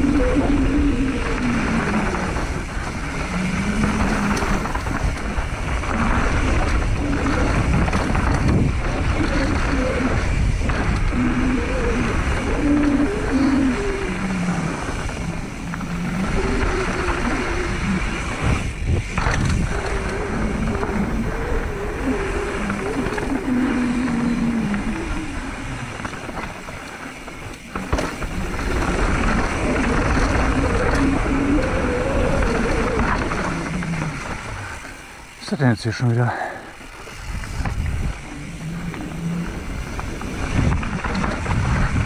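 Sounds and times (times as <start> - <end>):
wind rush on microphone: 0.0 - 35.7, 36.6 - 42.0
bike tyres rattling on rough ground: 0.0 - 42.0.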